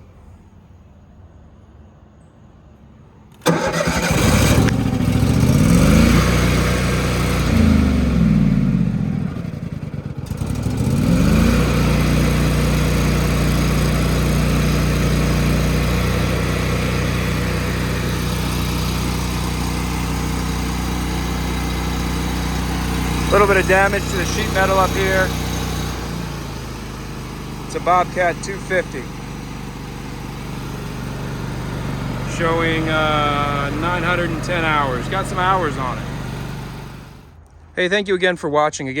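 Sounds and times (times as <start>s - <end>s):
welder generator engine running: 3.3s - 37.4s.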